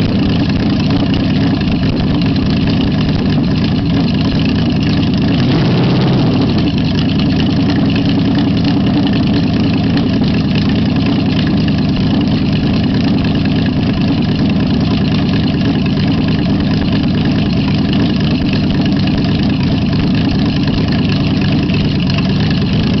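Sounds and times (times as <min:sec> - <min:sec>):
race engine idling: 0:00.0 - 0:23.0.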